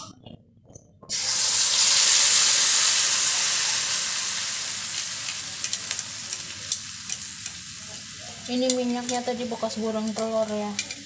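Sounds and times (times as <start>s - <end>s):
oil crackling: 1.1s - 11.0s
spice paste sizzling in hot oil: 1.1s - 11.0s.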